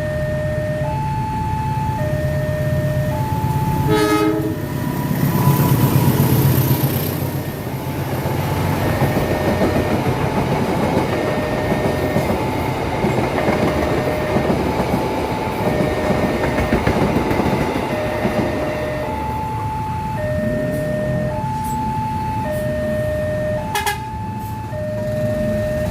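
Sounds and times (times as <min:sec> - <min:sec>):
crossing warning alarm tone: 0:00.0 - 0:25.9
train rumbling over rails: 0:00.0 - 0:25.9.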